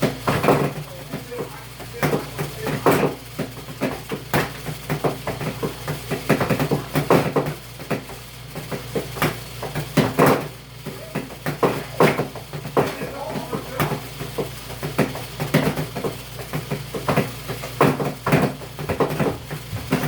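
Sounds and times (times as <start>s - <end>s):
washing machine knocking: 0.0s - 20.0s
washing machine motor hum: 0.0s - 20.0s.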